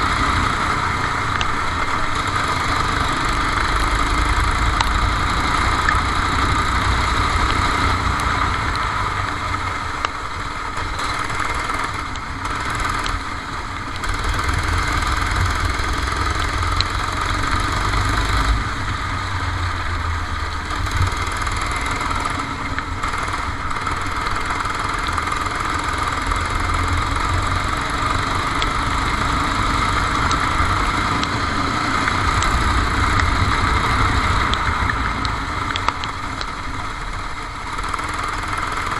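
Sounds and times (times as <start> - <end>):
kart engine running: 0.0 - 38.9.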